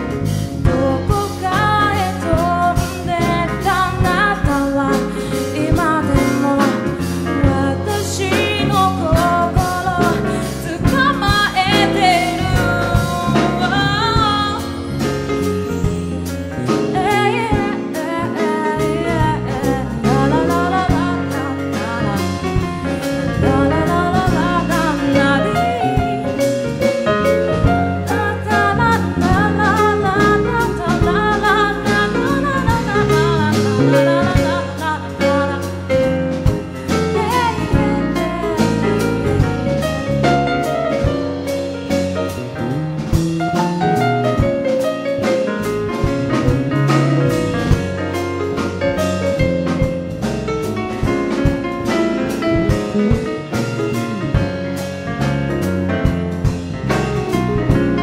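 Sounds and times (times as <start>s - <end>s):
bass line: 0.0s - 58.0s
drum kit beat: 0.0s - 58.0s
piano chords: 0.0s - 58.0s.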